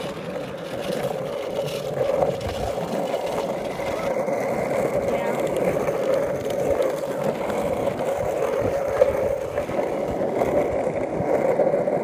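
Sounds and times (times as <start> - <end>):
skateboard knock: 0.0 - 12.0
skateboard wheels rolling on asphalt: 0.0 - 12.0.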